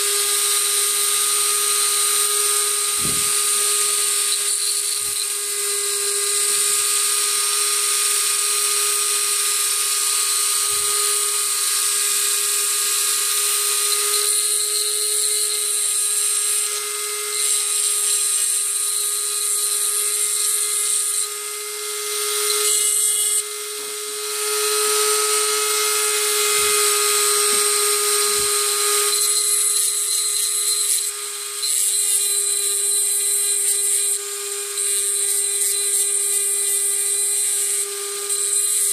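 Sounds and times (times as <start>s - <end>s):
rotary tool grinding metal: 0.0s - 38.9s.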